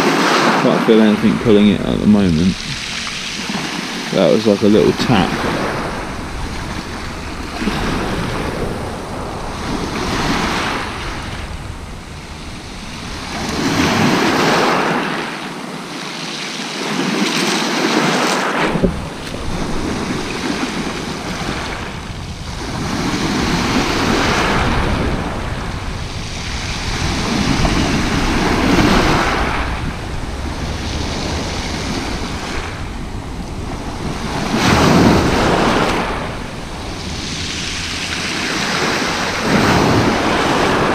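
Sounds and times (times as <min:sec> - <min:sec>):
waves breaking on shingle beach: 0:00.0 - 0:40.9.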